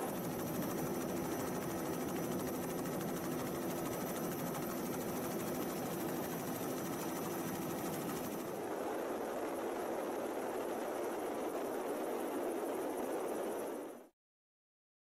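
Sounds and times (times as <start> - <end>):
helicopter engine and rotor: 0.0 - 14.1.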